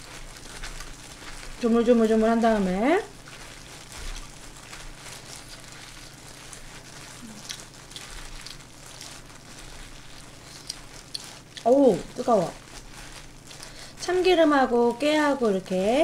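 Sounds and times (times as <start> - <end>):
gloved hands kneading rice: 0.0 - 16.0.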